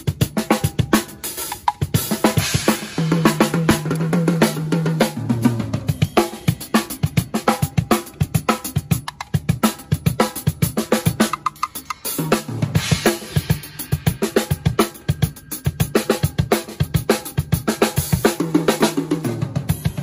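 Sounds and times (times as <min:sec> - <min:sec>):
fast drum kit groove: 0:00.0 - 0:20.0.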